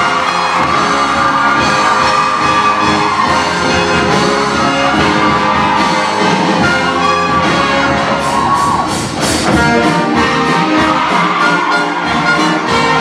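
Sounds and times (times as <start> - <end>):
brass section: 0.0 - 13.0
live band playing dance music: 0.0 - 13.0.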